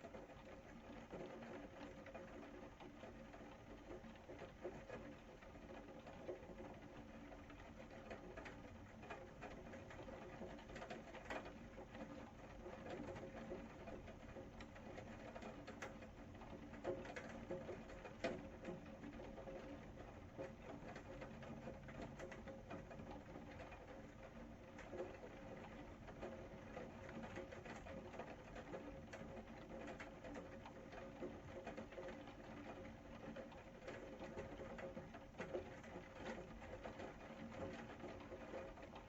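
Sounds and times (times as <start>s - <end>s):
faint rain pattering: 0.0s - 39.0s.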